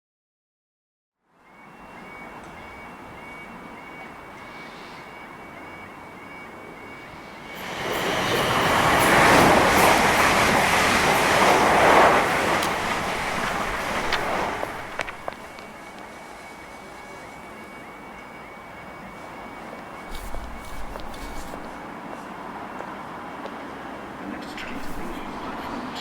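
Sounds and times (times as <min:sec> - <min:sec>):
quiet background ambience: 0:01.3 - 0:26.0
train rushing past: 0:01.5 - 0:26.0.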